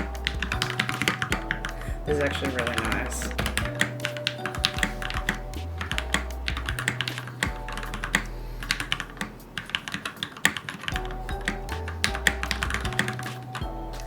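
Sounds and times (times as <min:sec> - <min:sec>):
background music with bass line: 0:00.0 - 0:09.9, 0:10.9 - 0:14.0.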